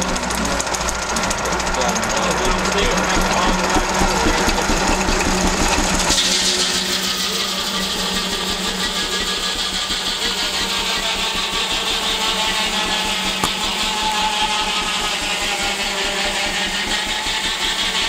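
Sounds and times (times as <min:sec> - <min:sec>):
steam engine mechanical beat: 0:00.0 - 0:06.4, 0:08.4 - 0:17.9.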